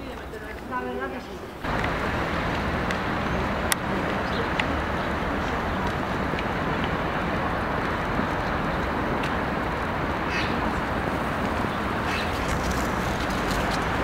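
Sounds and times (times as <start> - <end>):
distant traffic hiss: 0.0 - 14.0.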